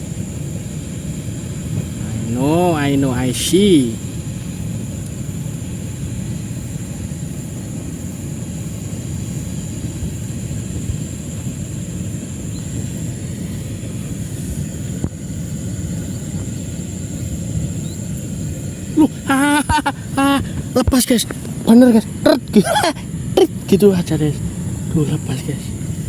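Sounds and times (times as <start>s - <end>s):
steady low rumble: 0.0s - 26.0s
thin high-pitched whine: 0.0s - 26.0s.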